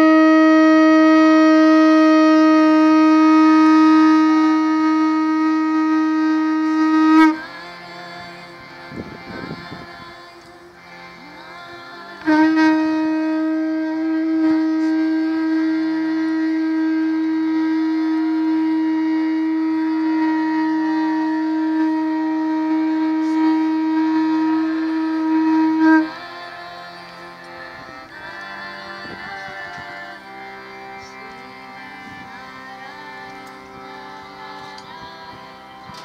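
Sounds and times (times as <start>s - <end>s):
conch shell blown: 0.0s - 36.0s
soft background drone: 0.0s - 36.0s.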